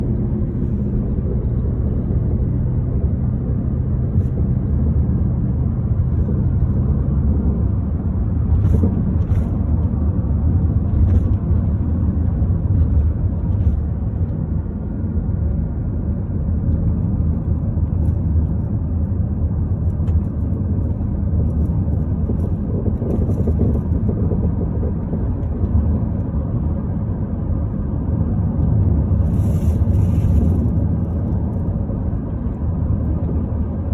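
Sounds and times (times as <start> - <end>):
car engine low rumble: 0.0 - 33.9.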